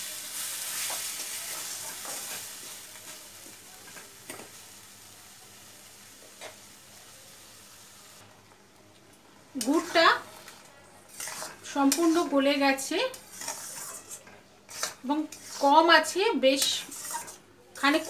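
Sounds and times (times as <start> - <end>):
food sizzling in a wok: 0.0 - 8.8, 9.4 - 18.0.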